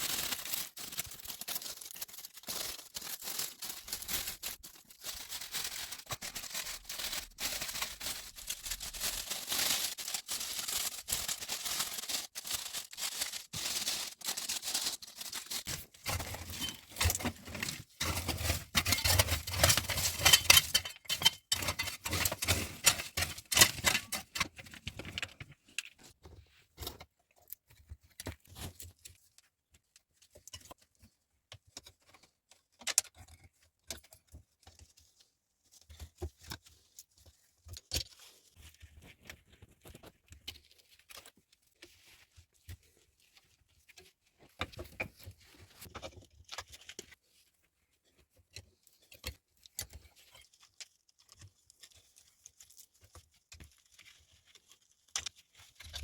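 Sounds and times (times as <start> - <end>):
small handling clicks and scrapes: 9.8 - 56.0.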